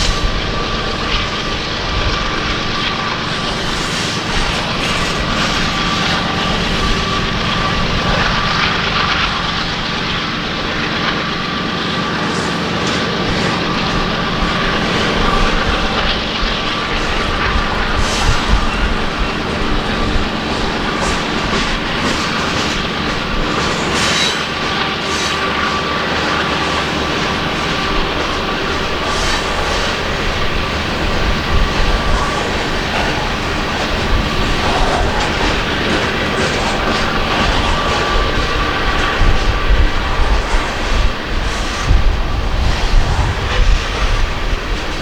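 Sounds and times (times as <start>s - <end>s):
faint wheel squeal: 0.0s - 45.0s
train cars rumbling past: 0.0s - 45.0s
wheels clicking over rail joints: 0.0s - 45.0s.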